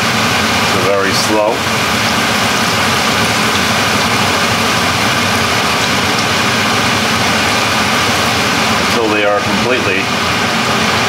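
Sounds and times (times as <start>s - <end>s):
fryer blower rushing: 0.0s - 11.0s
hot grease sizzling: 0.0s - 11.0s.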